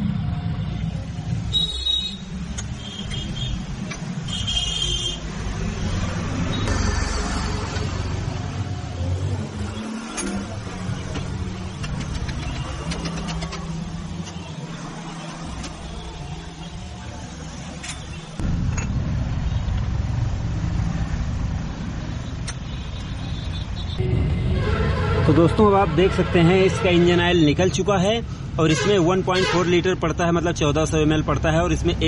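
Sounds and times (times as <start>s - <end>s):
vehicle engine rumbling: 0.0s - 28.6s.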